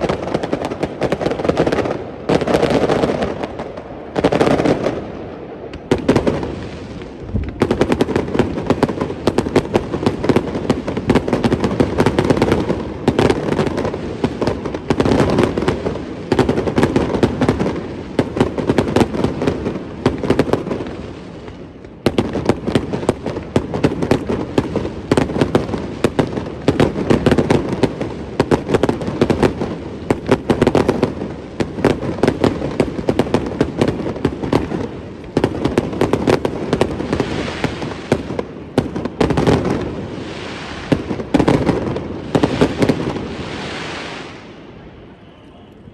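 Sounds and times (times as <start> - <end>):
fireworks crackling and booming: 0.0 - 45.9.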